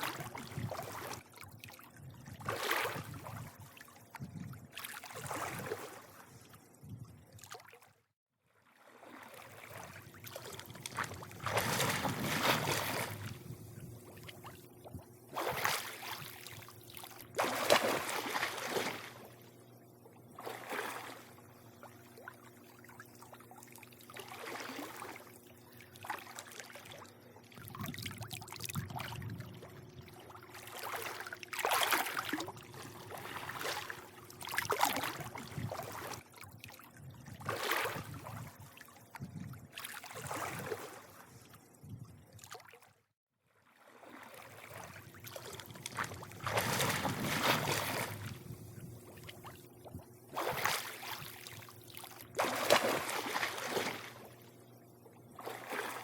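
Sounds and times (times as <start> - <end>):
pool water lapping and sloshing: 0.0 - 56.0
faint steady hum: 8.8 - 42.5, 44.0 - 56.0.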